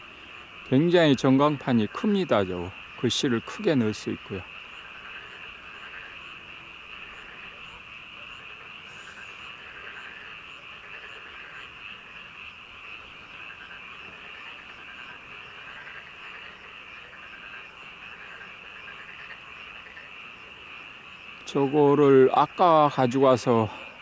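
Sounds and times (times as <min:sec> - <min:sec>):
frogs chorus trilling: 0:00.0 - 0:24.0.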